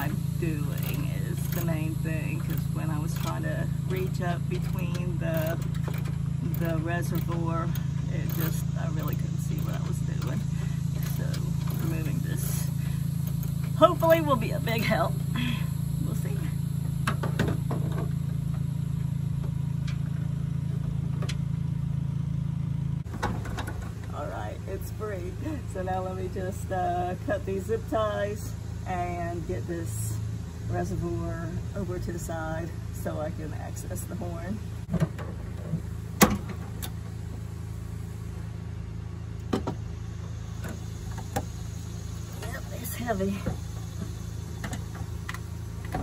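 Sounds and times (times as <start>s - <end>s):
engine idling: 0.0s - 46.0s
low mechanical hum: 0.0s - 46.0s.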